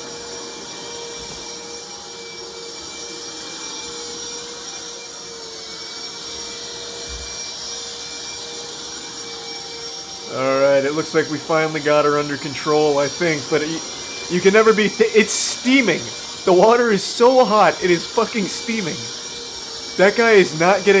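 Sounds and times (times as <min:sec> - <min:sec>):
wet vacuum running: 0:00.0 - 0:21.0.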